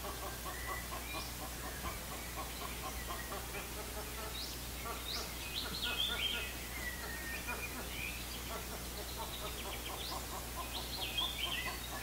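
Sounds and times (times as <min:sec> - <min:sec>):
wetland birds chattering: 0:00.0 - 0:12.0.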